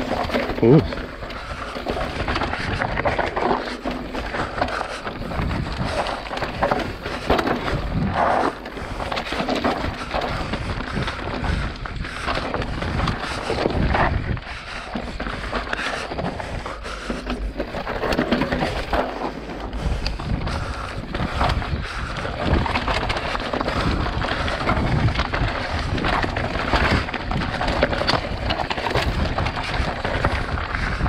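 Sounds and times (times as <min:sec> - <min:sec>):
bike knocking and rattling: 0:00.0 - 0:31.0
tyres crunching over stones: 0:00.0 - 0:31.0.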